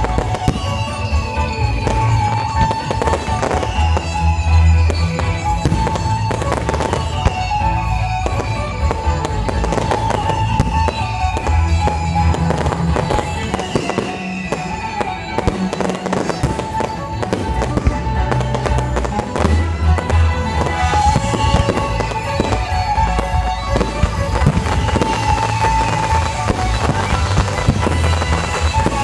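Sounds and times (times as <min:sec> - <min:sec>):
fireworks bangs and crackles: 0:00.0 - 0:29.0
loud music: 0:00.0 - 0:29.0.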